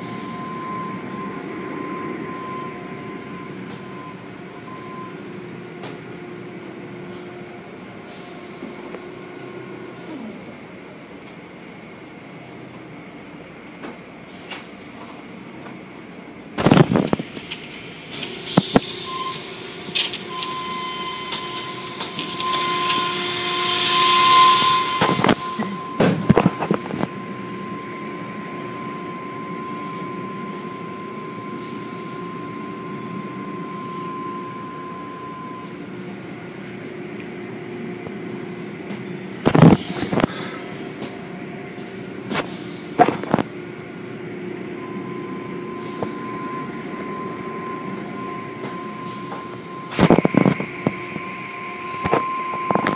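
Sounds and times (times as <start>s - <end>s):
high mechanical whine: 0.0s - 11.2s, 14.9s - 52.9s
car wash machinery din: 0.0s - 52.9s.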